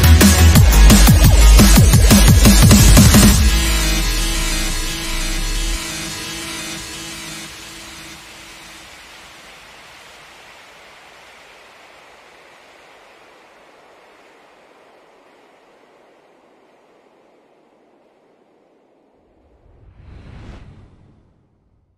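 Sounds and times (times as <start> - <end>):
steady rushing noise: 0.0 - 21.9.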